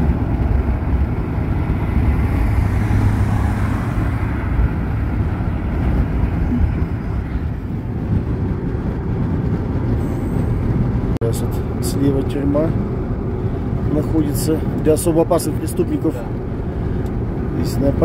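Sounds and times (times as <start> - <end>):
tyre and engine rumble: 0.0 - 18.0.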